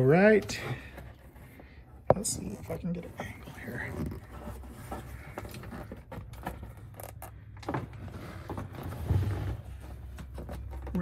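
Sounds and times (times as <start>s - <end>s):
plastic scraping on plastic: 0.3s - 11.0s.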